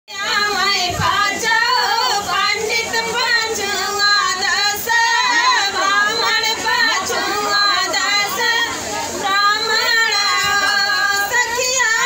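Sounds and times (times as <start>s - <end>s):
women singing folk song: 0.1s - 12.0s.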